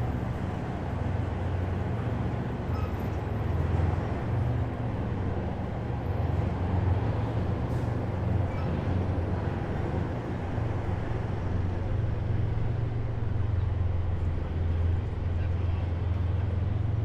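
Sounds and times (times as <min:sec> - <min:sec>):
heavy vehicle engines rumbling: 0:00.0 - 0:17.0.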